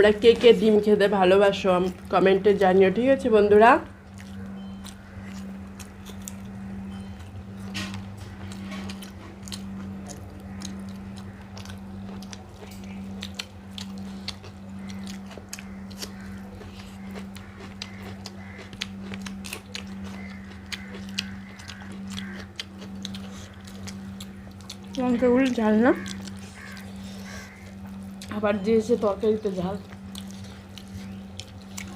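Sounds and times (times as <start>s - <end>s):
steady low hum: 0.0s - 31.9s
wet chewing sounds: 3.9s - 31.9s.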